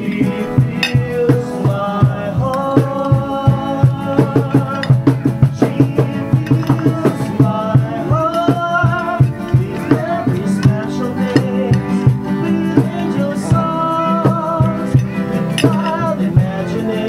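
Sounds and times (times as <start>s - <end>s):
quick steady drum beat: 0.0s - 17.0s.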